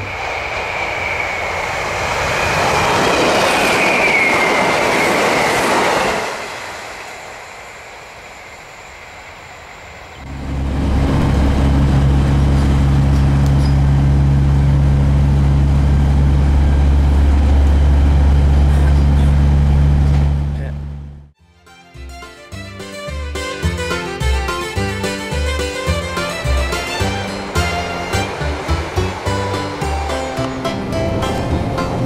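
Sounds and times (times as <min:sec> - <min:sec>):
train hum from inside carriage: 0:00.0 - 0:21.4, 0:23.6 - 0:32.0
train passing with whine: 0:00.0 - 0:32.0.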